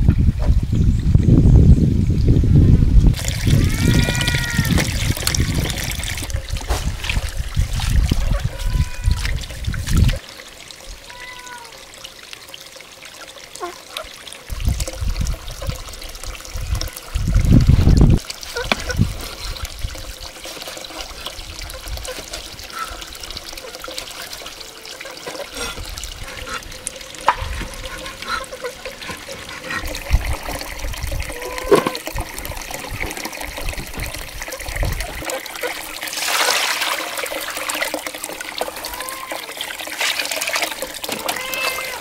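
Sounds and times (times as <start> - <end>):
running water trickling: 0.3 - 42.0.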